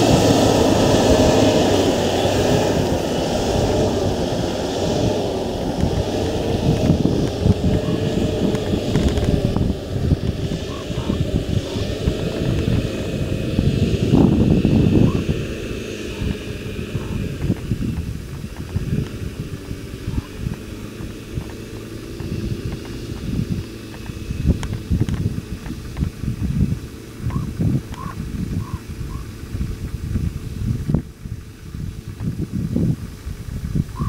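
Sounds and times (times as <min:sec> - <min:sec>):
distant car engine revving: 0:00.0 - 0:34.0
wind buffeting microphone: 0:00.0 - 0:34.0.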